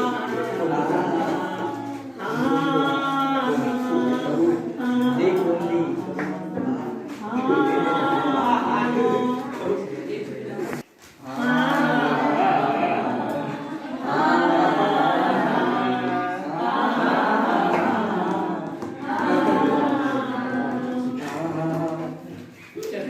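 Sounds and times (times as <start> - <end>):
group singing unaccompanied: 0.0 - 22.8.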